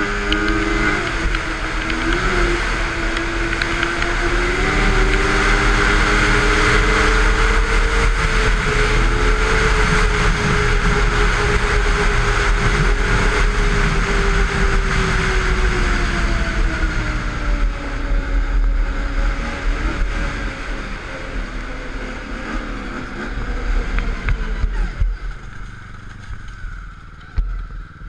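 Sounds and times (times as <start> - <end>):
snowmobile engine running: 0.0 - 28.0
wind rumble on microphone: 0.0 - 28.0.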